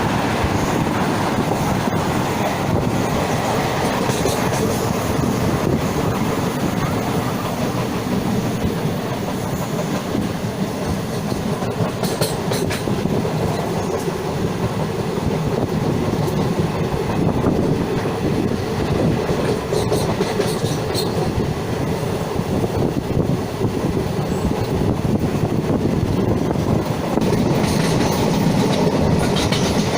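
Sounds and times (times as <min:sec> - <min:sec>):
sharp train clicks: 0:00.0 - 0:29.9
train wheels rumbling on rails: 0:00.0 - 0:29.9.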